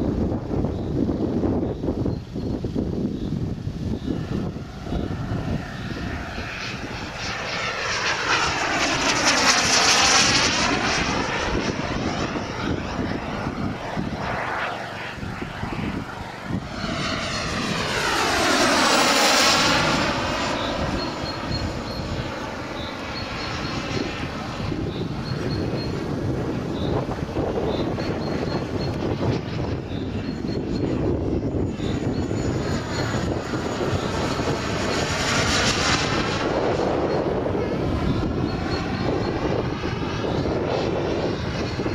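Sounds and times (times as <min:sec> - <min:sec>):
model aircraft engine: 0:00.0 - 0:41.9.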